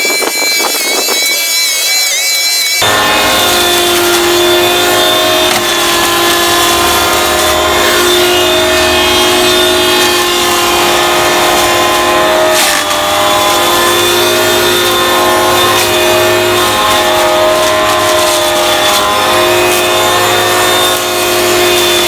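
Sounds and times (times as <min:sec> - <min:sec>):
electric hedge trimmer humming: 0:02.8 - 0:22.0.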